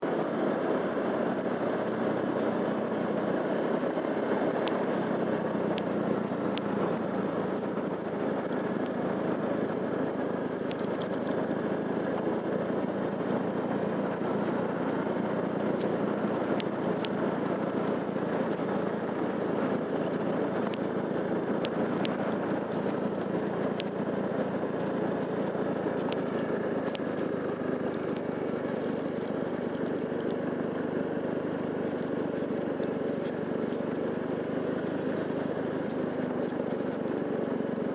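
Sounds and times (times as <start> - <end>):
motorcycle engine running: 0.0 - 37.9
road and wind noise: 0.0 - 37.9.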